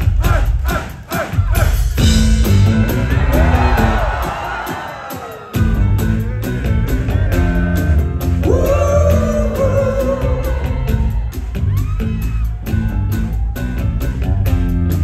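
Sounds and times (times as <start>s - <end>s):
rock band bass and drums: 1.3s - 15.0s.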